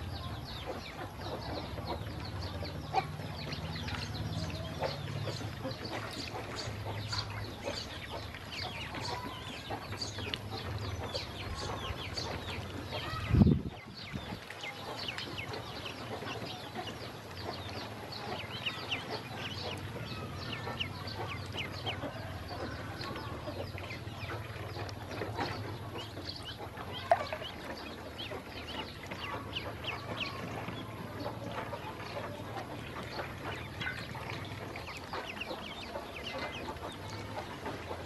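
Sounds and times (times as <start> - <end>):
ducklings peeping: 0.0 - 38.0.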